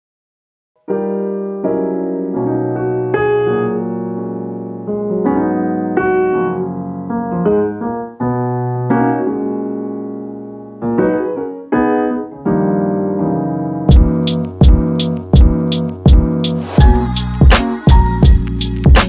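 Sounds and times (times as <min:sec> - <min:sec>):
piano music: 0:00.8 - 0:19.0.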